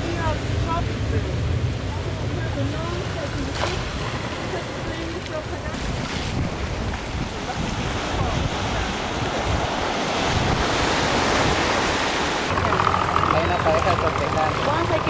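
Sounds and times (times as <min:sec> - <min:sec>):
ocean surf rushing: 0:00.0 - 0:15.0
wind buffeting microphone: 0:01.9 - 0:15.0.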